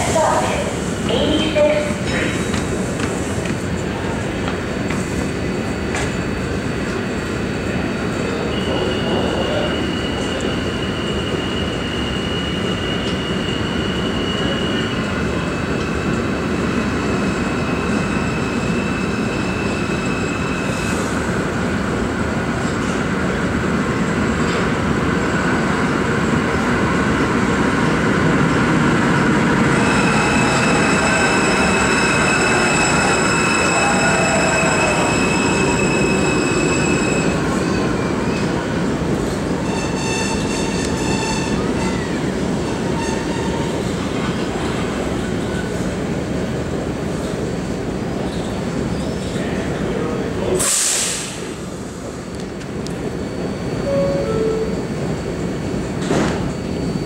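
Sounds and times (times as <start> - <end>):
train wheels rumbling on rail: 0.0 - 54.1, 54.8 - 57.0
train high whine: 0.0 - 57.0.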